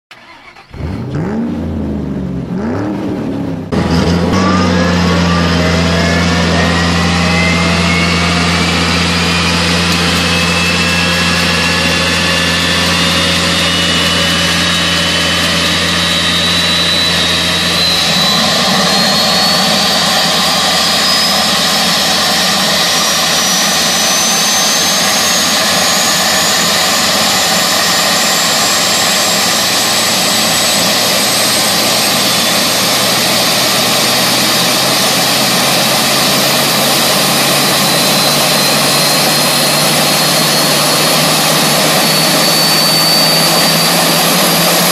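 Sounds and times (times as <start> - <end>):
turboprop engine whine and hum: 0.0 - 44.9
engine revving: 0.1 - 44.9.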